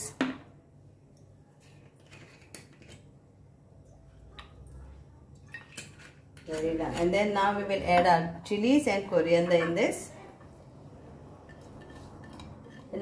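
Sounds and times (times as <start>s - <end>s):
low steady hum: 0.1s - 13.0s.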